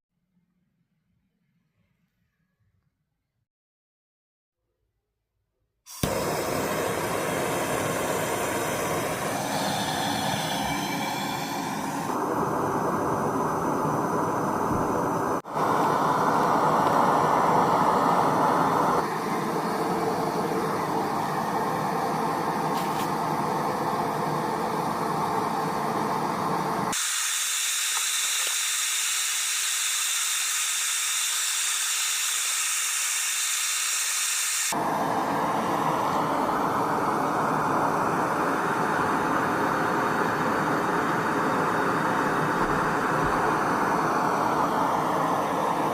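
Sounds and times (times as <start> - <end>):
forge hissing: 5.9 - 45.9.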